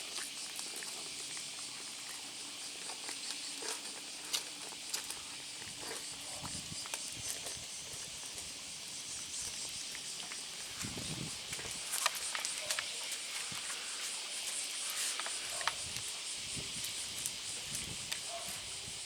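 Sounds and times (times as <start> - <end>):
cats crunching dry food: 0.0 - 19.0
steady outdoor hiss: 0.0 - 19.0.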